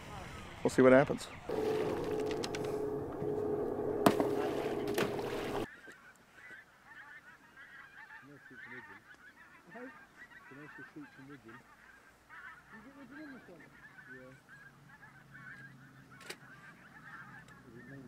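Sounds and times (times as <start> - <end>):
geese honking: 1.5 - 5.7, 6.4 - 18.0.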